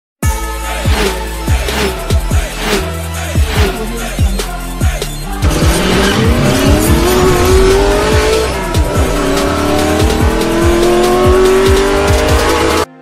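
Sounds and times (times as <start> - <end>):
hip-hop beat: 0.2 - 12.9
racing car engine revving: 0.8 - 12.9.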